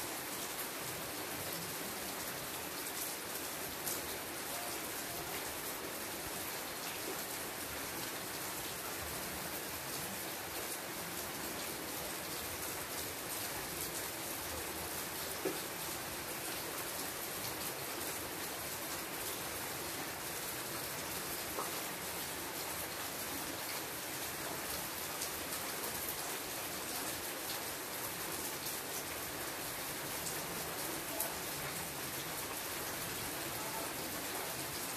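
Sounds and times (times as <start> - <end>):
louder raindrops: 0.0 - 34.9
rain falling on leaves: 0.0 - 34.9.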